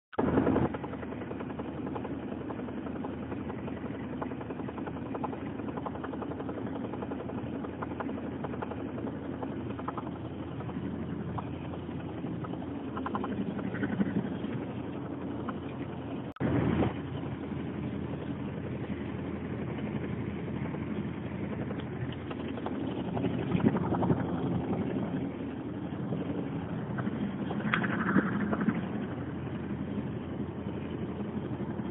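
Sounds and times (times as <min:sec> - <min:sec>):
flapping noise from car: 0:00.2 - 0:17.2, 0:19.7 - 0:25.5, 0:26.1 - 0:29.4.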